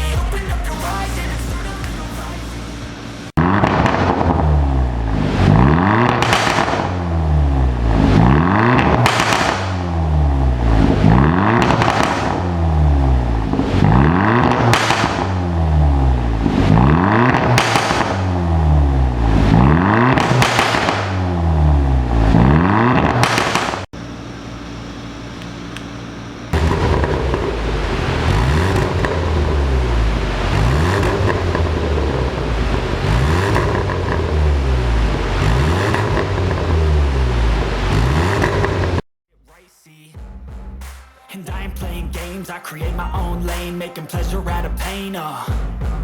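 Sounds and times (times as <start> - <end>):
car engine idling: 0.0 - 39.0
car engine revving with crackle: 0.9 - 24.2, 25.2 - 39.1.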